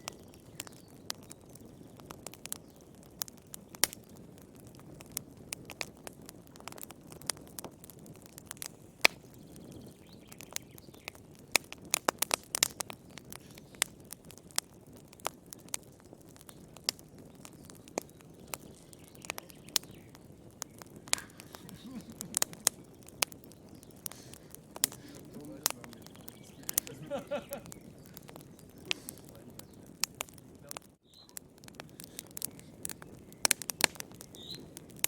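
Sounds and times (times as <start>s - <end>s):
low rush of flames: 0.0s - 35.0s
wood fire crackling: 0.0s - 35.0s.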